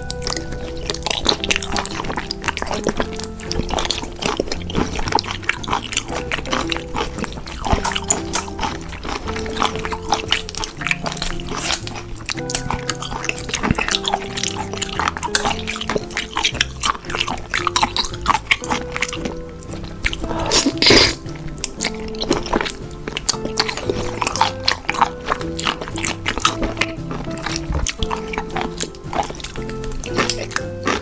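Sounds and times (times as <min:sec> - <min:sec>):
background music with held notes: 0:00.0 - 0:31.0
person chewing and slurping: 0:00.0 - 0:31.0.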